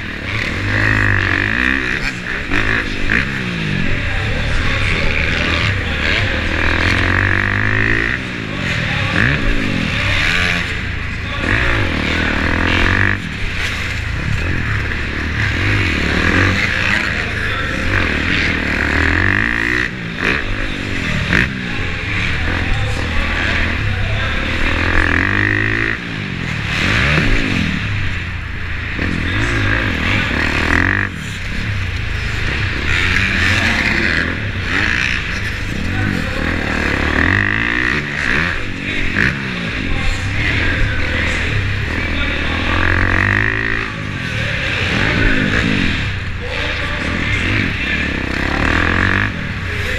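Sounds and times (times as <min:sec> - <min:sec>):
motorbike engine revving: 0:00.0 - 0:49.9.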